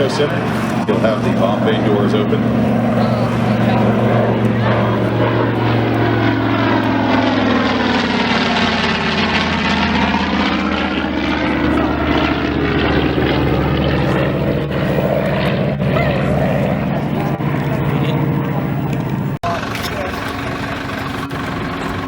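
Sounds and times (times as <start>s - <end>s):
propeller plane passing overhead: 0.0s - 22.0s.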